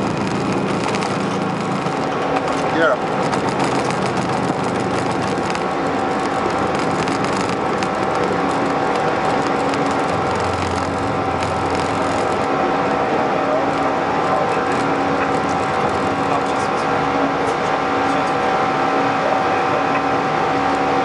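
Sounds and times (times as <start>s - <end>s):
constant cockpit hum: 0.0s - 21.0s
jet engine and airflow rush: 0.0s - 21.0s.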